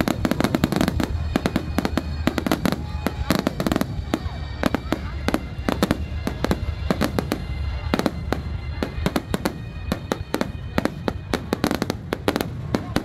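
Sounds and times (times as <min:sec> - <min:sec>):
fireworks banging and crackling: 0:00.0 - 0:13.0.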